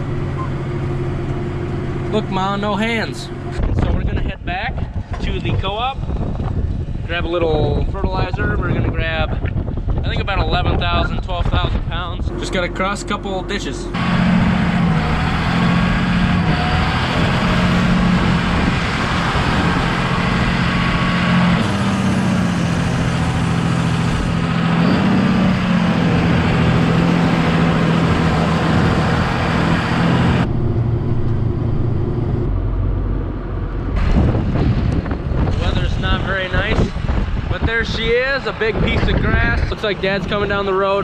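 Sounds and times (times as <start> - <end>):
tractor diesel engine running: 0.0 - 5.4, 10.8 - 41.0.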